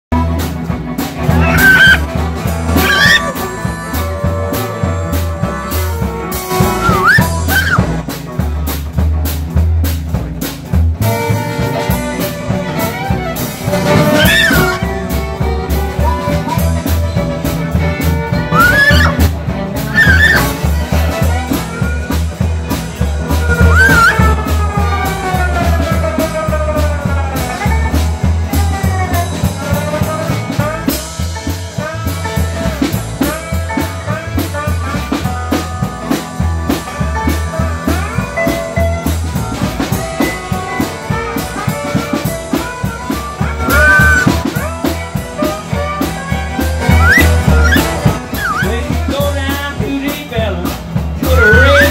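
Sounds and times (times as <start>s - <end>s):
drums: 0.0s - 51.9s
harmonica bending notes: 0.1s - 8.2s, 11.0s - 49.2s, 51.2s - 51.9s
bass line: 0.1s - 51.9s
guitar: 0.1s - 51.9s.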